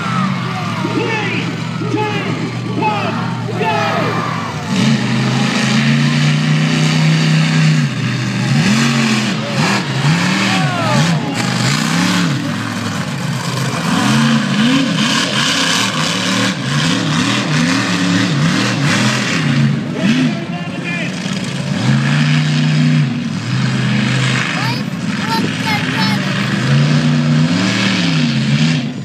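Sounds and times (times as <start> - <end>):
monster truck engine revving: 0.0 - 29.0.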